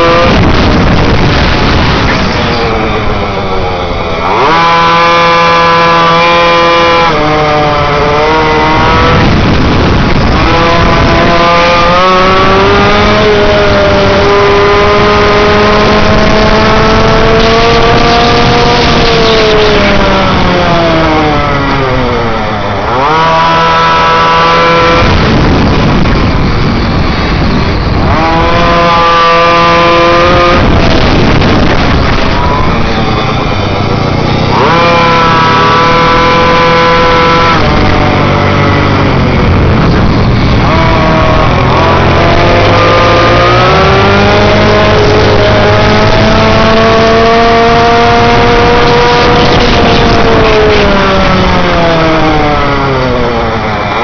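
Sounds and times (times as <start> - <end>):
dense rush of noise: 0.0 - 54.0
small motorbike engines racing: 0.0 - 54.0.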